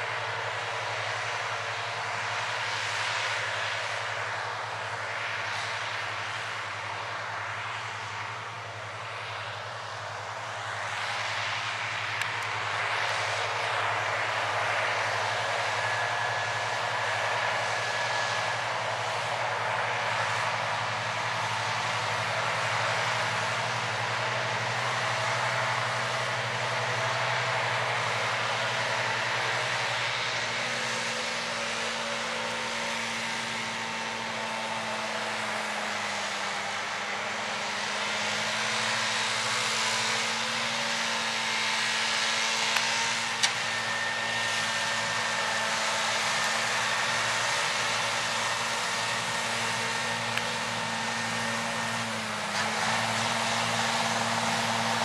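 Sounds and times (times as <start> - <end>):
mowers cutting grass: 0.0 - 55.0
tractor diesel engine running: 0.0 - 55.0.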